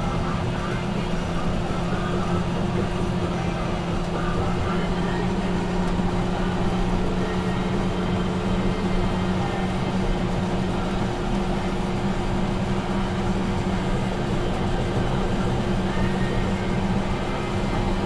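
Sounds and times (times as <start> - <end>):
bulldozer diesel engine droning: 0.0 - 18.0.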